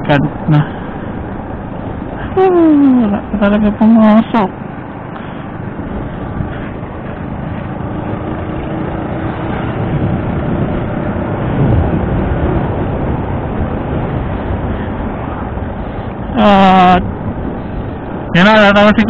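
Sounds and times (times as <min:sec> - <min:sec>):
motorcycle engine running: 0:00.0 - 0:18.3
wind rushing over microphone: 0:00.0 - 0:19.0.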